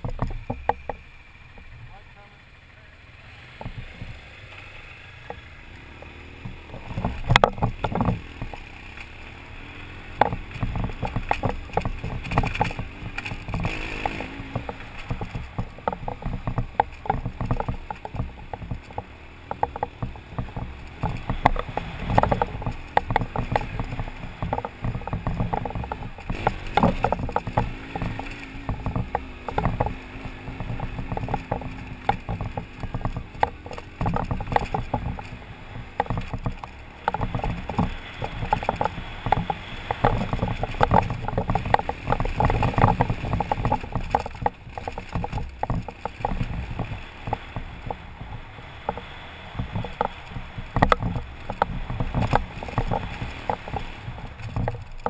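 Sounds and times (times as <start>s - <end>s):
motorcycle engine running: 0.0s - 55.0s
motorcycle knocks and rattles: 0.0s - 55.0s.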